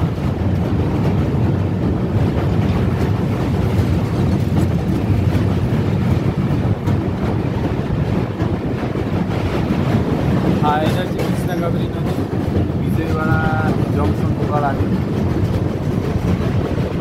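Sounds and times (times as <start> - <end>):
train rumbling over bridge: 0.0 - 17.0.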